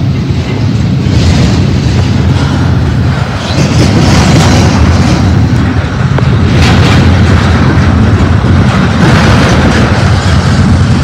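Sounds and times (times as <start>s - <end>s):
steel wheels rumbling on rail: 0.0s - 11.0s.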